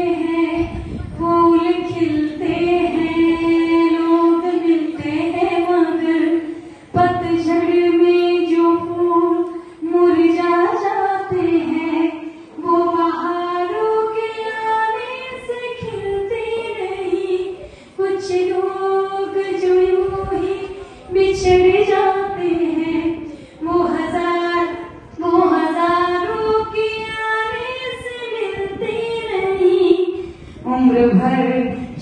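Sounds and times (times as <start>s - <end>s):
woman singing slow song: 0.0s - 32.0s.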